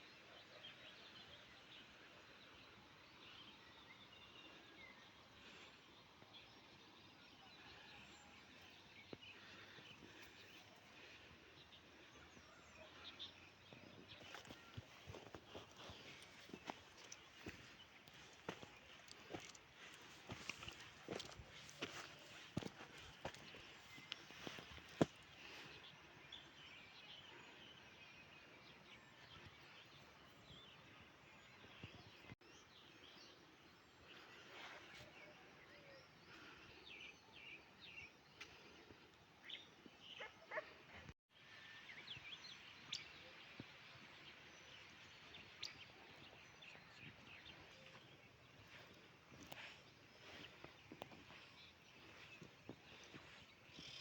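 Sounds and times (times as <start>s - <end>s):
faint rural ambience: 0.0s - 54.0s.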